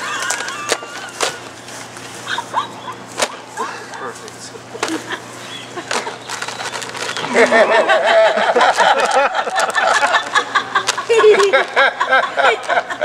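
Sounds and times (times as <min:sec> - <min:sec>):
people laughing and calling out: 0:00.0 - 0:13.0.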